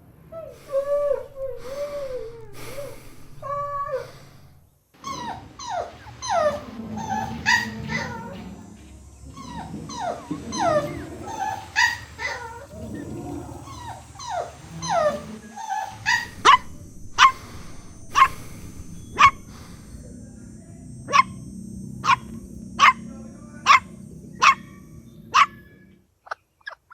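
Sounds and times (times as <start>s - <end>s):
puppies whining and yelping: 0.5s - 4.4s, 5.0s - 20.2s, 20.8s - 26.0s.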